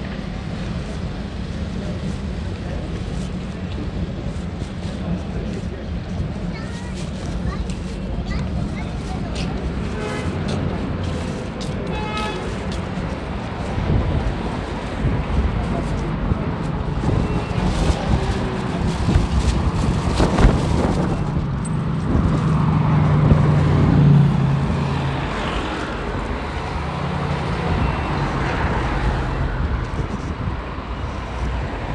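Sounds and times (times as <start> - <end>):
road noise: 0.0 - 31.9.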